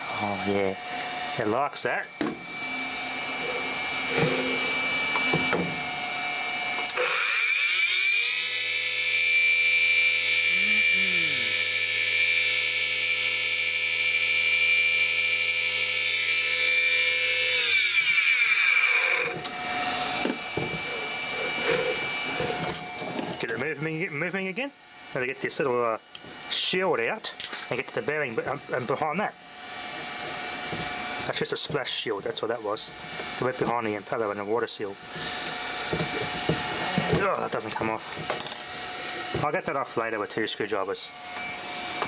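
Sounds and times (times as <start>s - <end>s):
pump motor grinding and whining: 0.0s - 42.0s.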